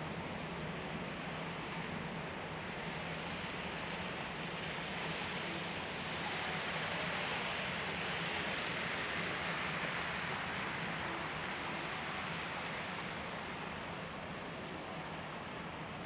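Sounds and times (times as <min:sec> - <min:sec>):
traffic hiss on wet streets: 0:00.0 - 0:16.0.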